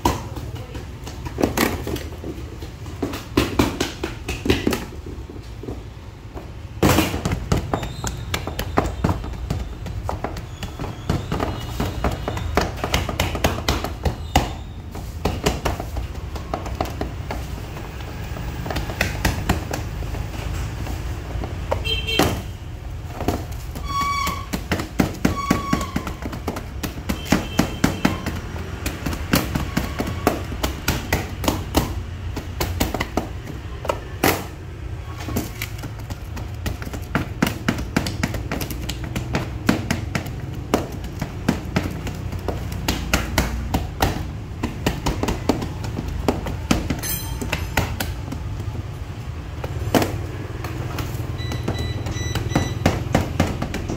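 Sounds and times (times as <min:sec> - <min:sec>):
hands pressing dough into tin: 0:00.0 - 0:53.9.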